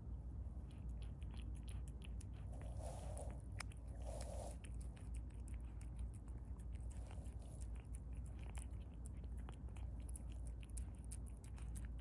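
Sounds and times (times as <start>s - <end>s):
low steady hum: 0.0s - 12.0s
cat licking and chewing food: 0.3s - 12.0s.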